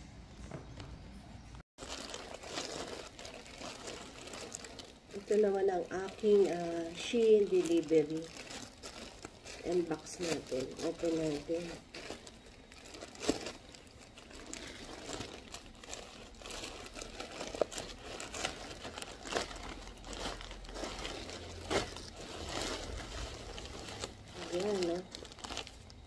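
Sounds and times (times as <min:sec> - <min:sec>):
plastic bag crinkling: 0:01.8 - 0:26.0.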